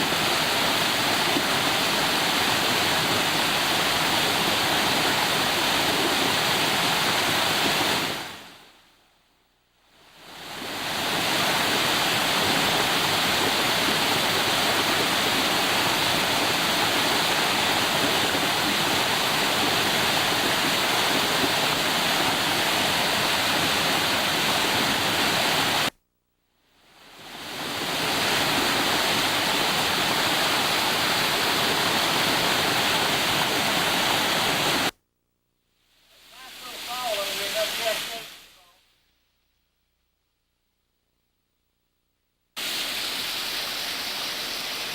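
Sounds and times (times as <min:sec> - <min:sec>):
waterfall rushing: 0:00.0 - 0:08.5, 0:10.3 - 0:25.9, 0:27.1 - 0:34.9, 0:36.2 - 0:38.6, 0:42.6 - 0:44.9.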